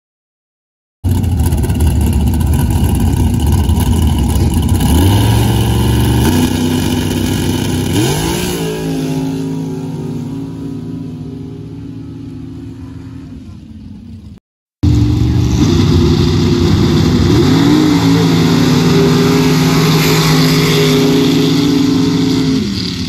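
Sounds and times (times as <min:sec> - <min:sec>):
race truck engine revving: 0:01.1 - 0:23.0.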